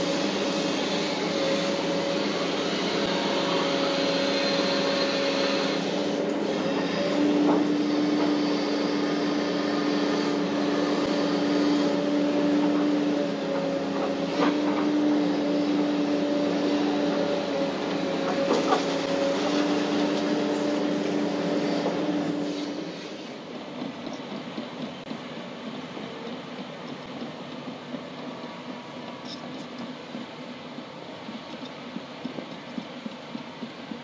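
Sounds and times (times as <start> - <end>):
excavator engine droning hum: 0.0 - 34.0.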